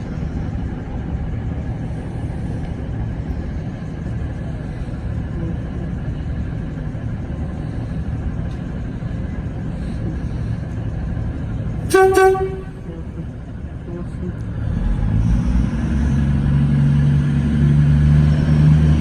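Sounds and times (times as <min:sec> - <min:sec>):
diesel railcar engine running: 0:00.0 - 0:19.0.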